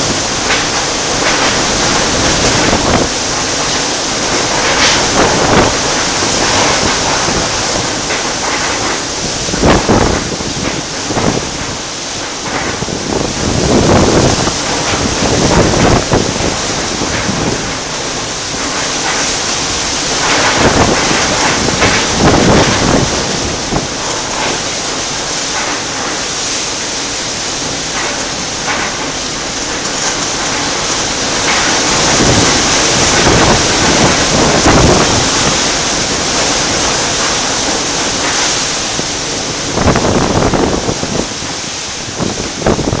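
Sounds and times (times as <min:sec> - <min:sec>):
heavy rain: 0:00.0 - 0:43.0
strong wind gusts: 0:00.0 - 0:43.0
wind buffeting microphone: 0:00.0 - 0:43.0.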